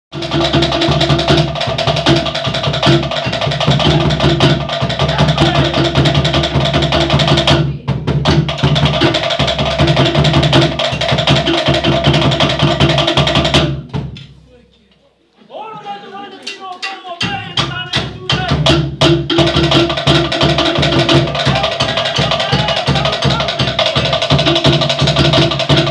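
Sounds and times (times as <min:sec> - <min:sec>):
large bass drum beat: 0:00.1 - 0:14.2, 0:17.2 - 0:25.9
wooden slit-drum strikes: 0:00.2 - 0:14.4, 0:16.4 - 0:25.9.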